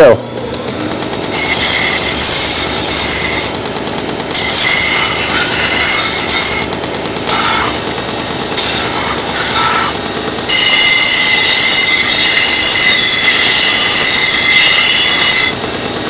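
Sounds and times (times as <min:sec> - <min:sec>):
belt grinder grinding hiss: 0:00.0 - 0:16.0.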